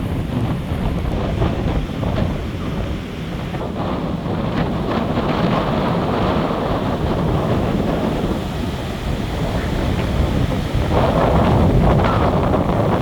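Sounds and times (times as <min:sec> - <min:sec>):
gusty wind buffeting microphone: 0:00.0 - 0:13.0
surf breaking on beach: 0:00.0 - 0:13.0.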